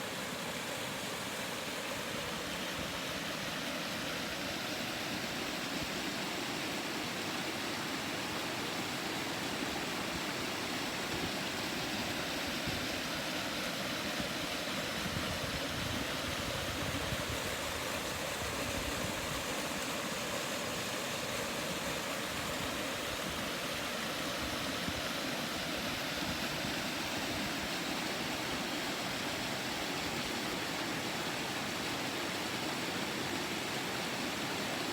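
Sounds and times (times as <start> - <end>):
river rushing over stones: 0.0 - 34.9.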